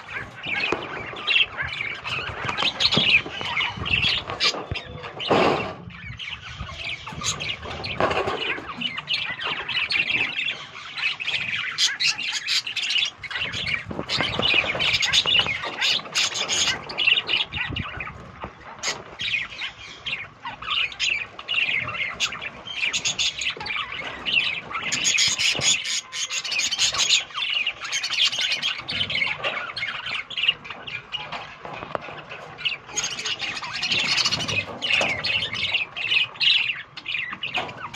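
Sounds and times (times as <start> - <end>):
budgerigars chattering and squawking: 0.0 - 37.9.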